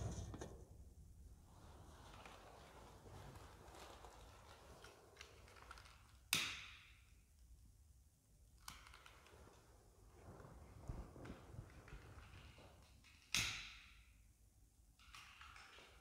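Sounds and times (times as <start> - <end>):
faint rustling room tone: 0.0 - 16.0.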